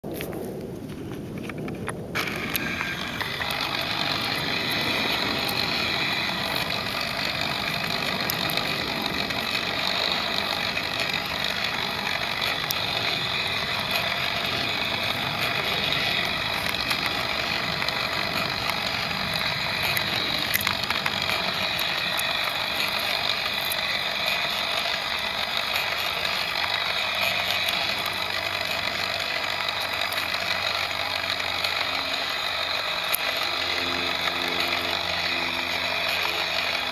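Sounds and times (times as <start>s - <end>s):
electric motor and gears whirring: 0.0s - 36.9s.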